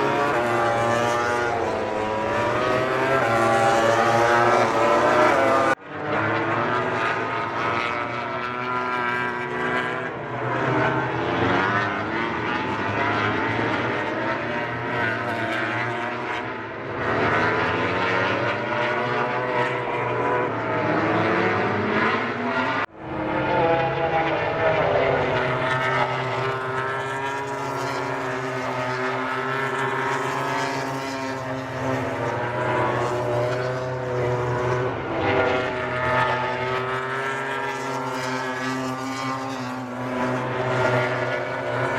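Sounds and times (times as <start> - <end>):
racing motorcycles passing: 0.0 - 41.9.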